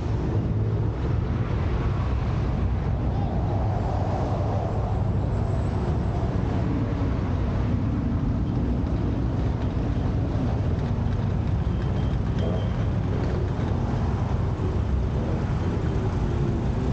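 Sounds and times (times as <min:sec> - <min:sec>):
traffic passing: 0:00.0 - 0:16.9.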